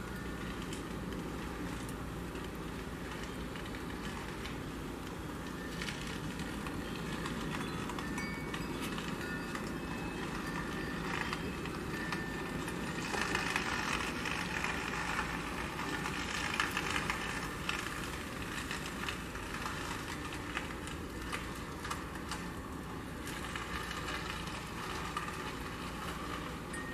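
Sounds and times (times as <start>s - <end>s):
wind gusting through branches: 0.0s - 26.9s.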